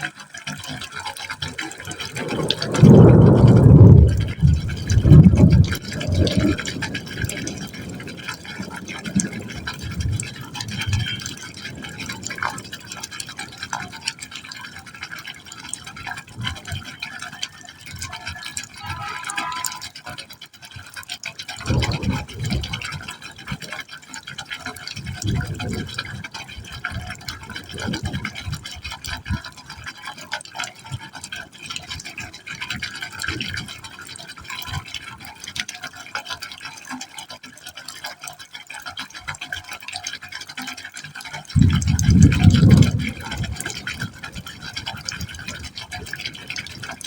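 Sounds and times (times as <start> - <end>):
water pouring into a pipe: 0.0 - 47.0.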